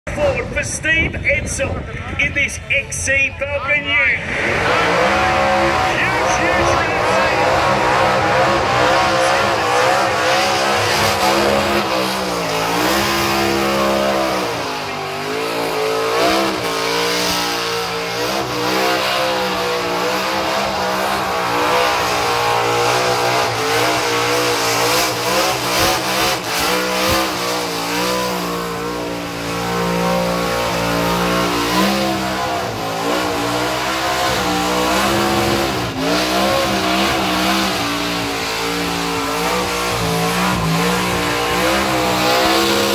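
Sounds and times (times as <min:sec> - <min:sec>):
car engine revving high: 0:03.7 - 0:42.9.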